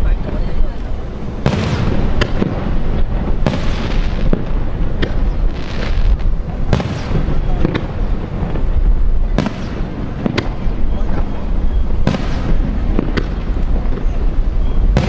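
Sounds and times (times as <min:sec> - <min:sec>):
firework crackle: 0:00.0 - 0:15.0
firework shells bursting: 0:00.0 - 0:15.0.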